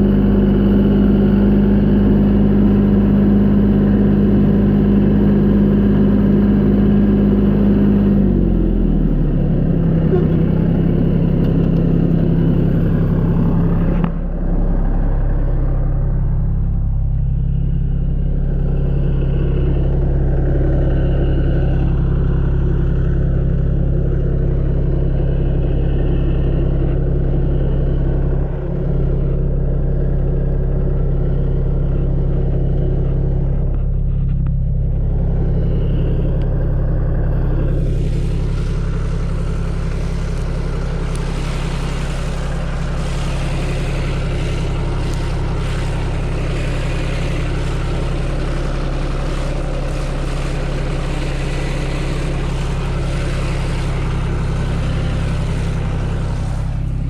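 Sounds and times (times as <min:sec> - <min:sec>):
farm machine engine humming: 0:00.0 - 0:57.0.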